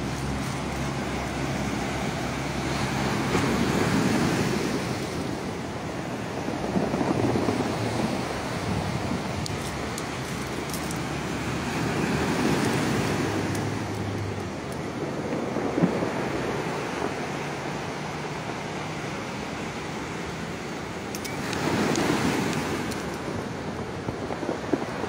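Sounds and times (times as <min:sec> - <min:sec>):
surf breaking and washing ashore: 0:00.0 - 0:25.0.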